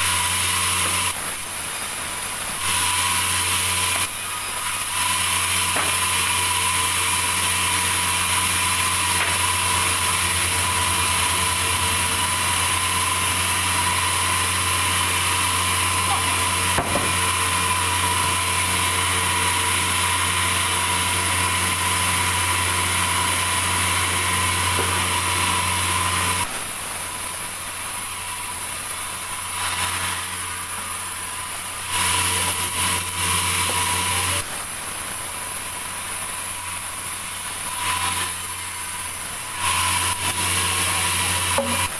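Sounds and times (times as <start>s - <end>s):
sawmill saw cutting log: 0.0s - 41.9s.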